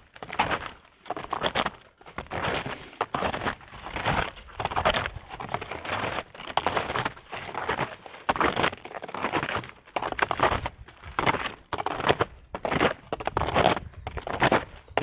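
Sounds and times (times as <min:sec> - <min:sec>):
snowshoe footsteps crunching snow: 0:00.0 - 0:15.0.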